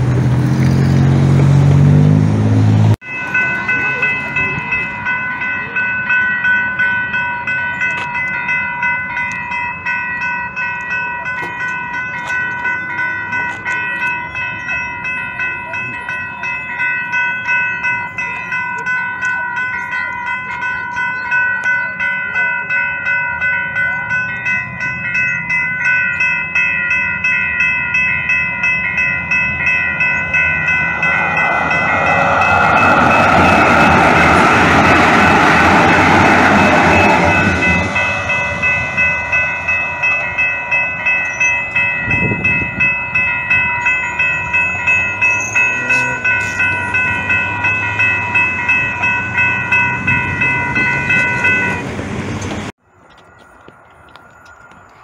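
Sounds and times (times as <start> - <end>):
level-crossing warning bell: 0.0 - 55.0
train wheels rumbling on rails: 0.0 - 55.0.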